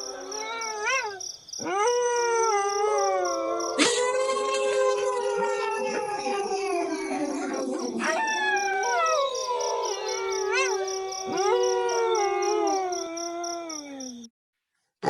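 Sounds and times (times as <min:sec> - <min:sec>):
wolf yelps: 0:00.0 - 0:06.6, 0:08.0 - 0:14.1
wolves howling: 0:00.0 - 0:14.3.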